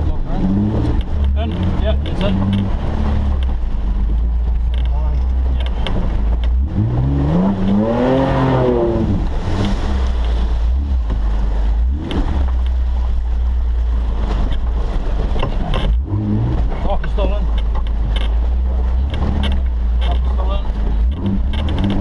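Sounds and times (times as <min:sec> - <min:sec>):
car engine revving: 0:00.0 - 0:22.0
mud splashing against car body: 0:00.0 - 0:22.0.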